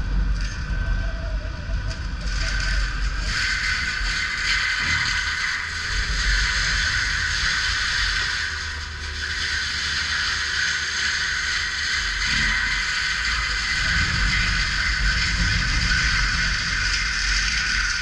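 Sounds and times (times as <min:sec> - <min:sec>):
track loader engine rumble: 0:00.0 - 0:18.0.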